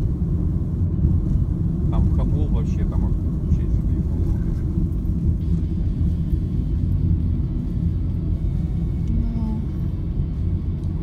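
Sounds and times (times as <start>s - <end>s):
road and engine rumble in car: 0.0s - 11.0s.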